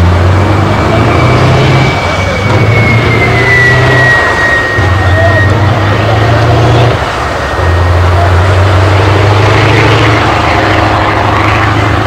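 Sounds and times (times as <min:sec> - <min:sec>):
diesel truck engine pulling away: 0:00.0 - 0:12.0.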